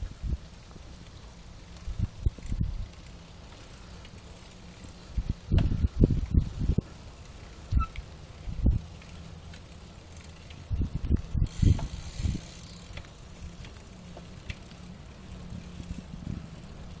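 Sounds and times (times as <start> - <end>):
bicycles rolling on asphalt: 0.0 - 17.0
freewheel hub ticking: 0.0 - 17.0.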